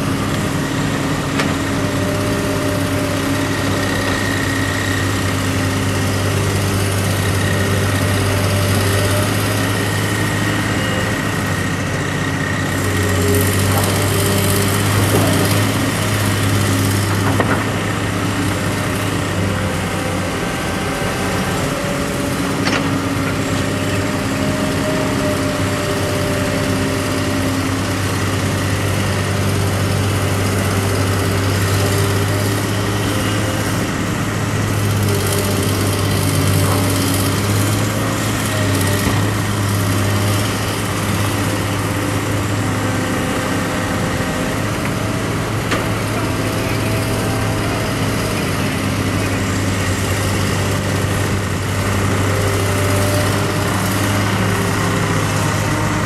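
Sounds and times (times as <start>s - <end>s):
excavator diesel engines humming: 0.0s - 56.0s.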